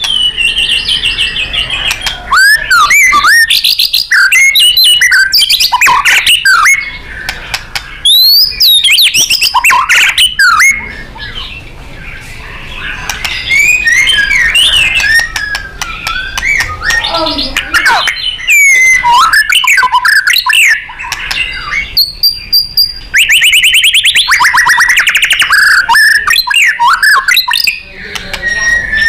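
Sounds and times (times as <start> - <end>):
bird singing rich whistles: 0.0 - 7.4, 8.0 - 11.6, 12.8 - 29.0.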